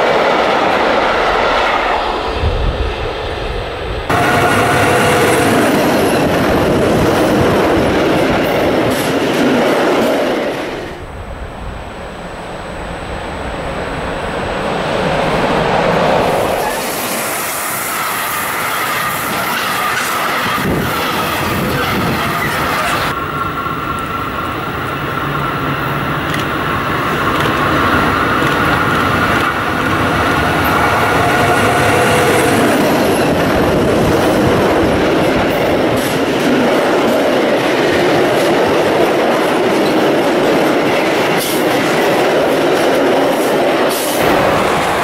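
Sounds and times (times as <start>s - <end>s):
electric locomotive whine: 0.0s - 45.0s.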